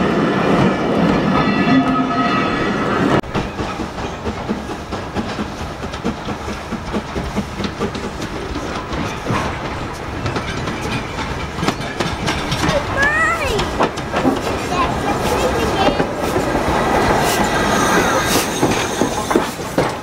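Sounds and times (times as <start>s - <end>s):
train wheels on rails squealing: 1.3s - 20.0s
wheels clicking over rail joints: 3.2s - 20.0s.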